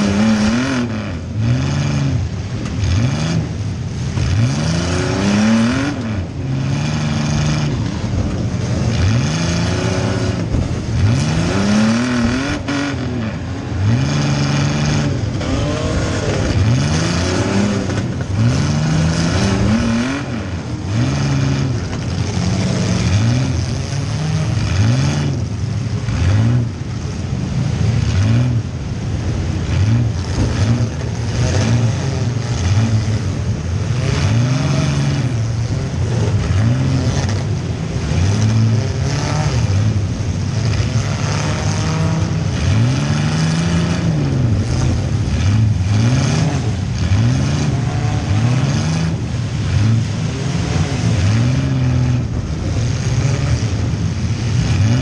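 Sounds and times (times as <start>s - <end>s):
car engine revving hard: 0.0s - 55.0s
other car engines revving: 0.0s - 55.0s.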